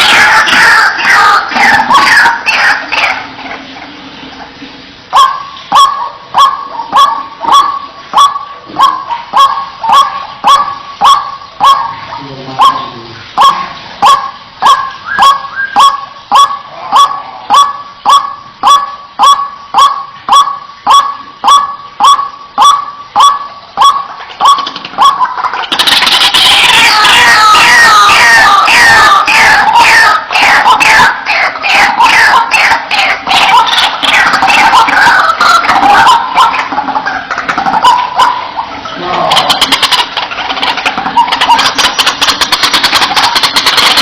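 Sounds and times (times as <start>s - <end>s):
waterhen harsh repeated call: 0.0s - 44.0s.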